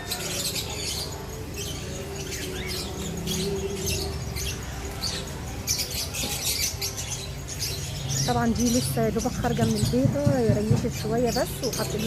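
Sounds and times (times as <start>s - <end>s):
small birds cheeping: 0.0s - 12.0s.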